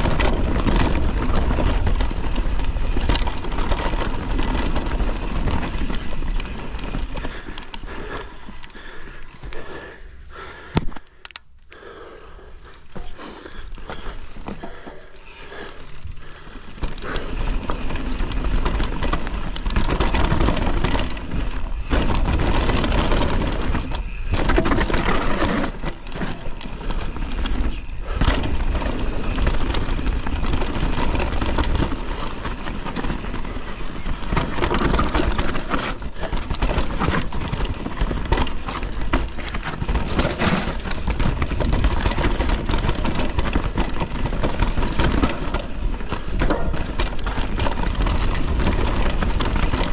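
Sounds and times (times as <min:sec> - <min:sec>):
bike rattling and knocking: 0:00.0 - 0:11.0, 0:12.7 - 0:49.9
tyres rolling over dirt and rocks: 0:00.0 - 0:11.0, 0:12.8 - 0:49.9.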